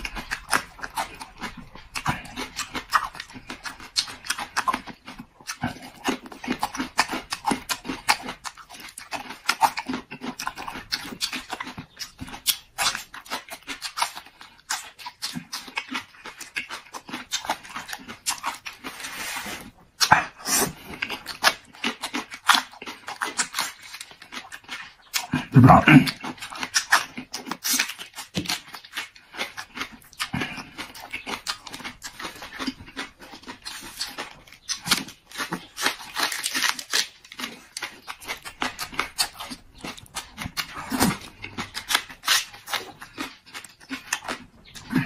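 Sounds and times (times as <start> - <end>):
wet chewing and lip-smacking: 0.0 - 45.0.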